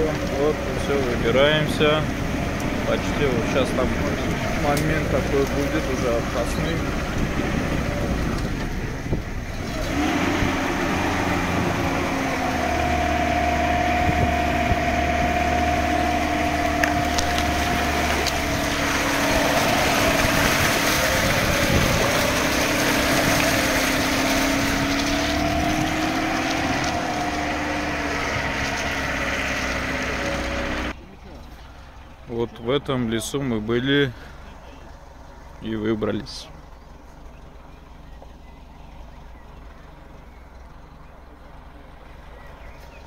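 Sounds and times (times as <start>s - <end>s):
car engine droning: 0.0s - 43.0s
tyres rushing through mud: 0.0s - 43.0s.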